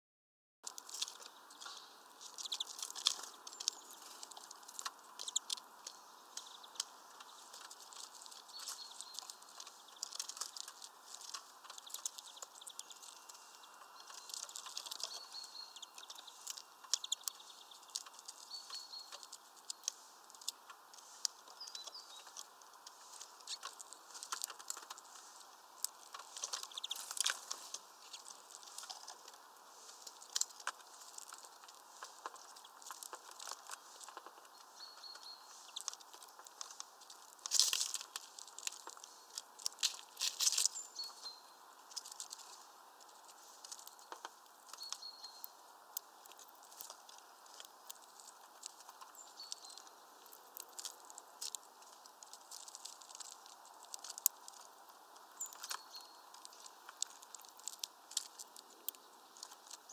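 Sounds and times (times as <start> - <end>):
birds cracking seeds: 0.6 - 59.9
faint high bird chirps: 0.8 - 36.8, 40.0 - 51.1, 54.2 - 57.2.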